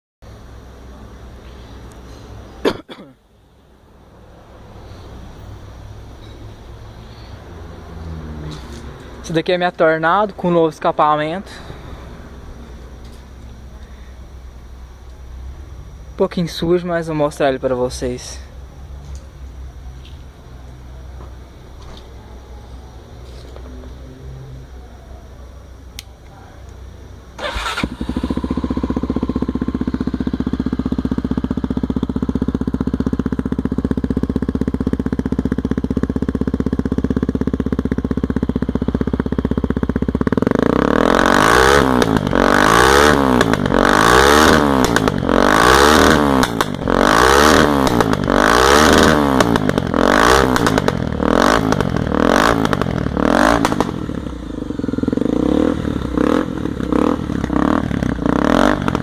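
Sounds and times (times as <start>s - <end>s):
motorcycle engine idling and revving: 0.2s - 59.0s.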